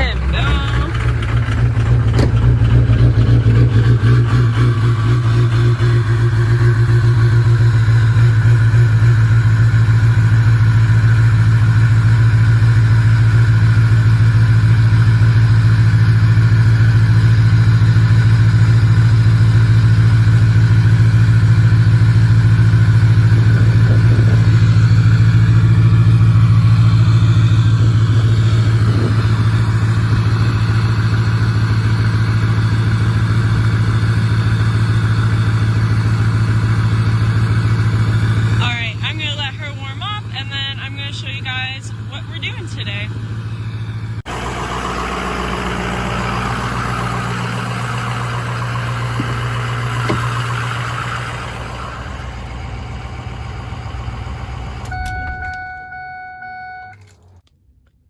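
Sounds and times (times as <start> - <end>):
pickup truck engine idling: 0.0 - 57.4.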